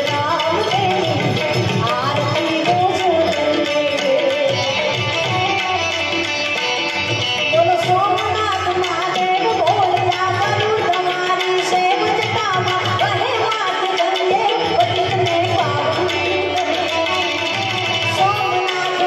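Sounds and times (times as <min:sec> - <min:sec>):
woman singing: 0:00.0 - 0:06.5, 0:07.2 - 0:19.0
harmonium: 0:00.0 - 0:19.0
tabla playing: 0:00.0 - 0:19.0.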